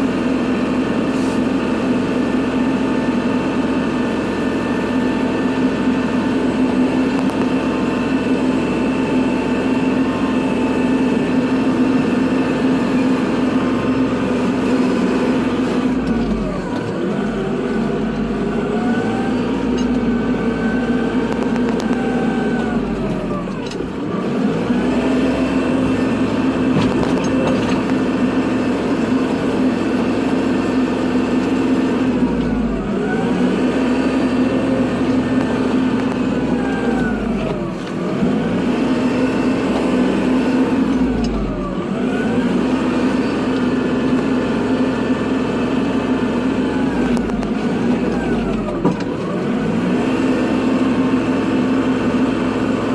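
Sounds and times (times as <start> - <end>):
tractor diesel engine running hard: 0.0 - 52.9.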